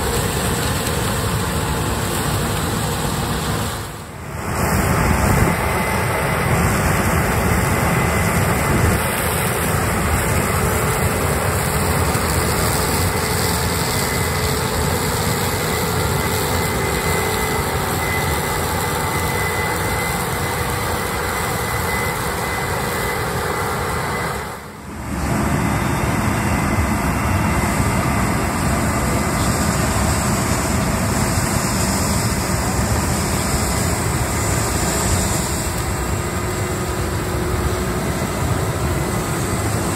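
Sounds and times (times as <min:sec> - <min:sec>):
diesel harvest machinery running: 0:00.0 - 0:39.9.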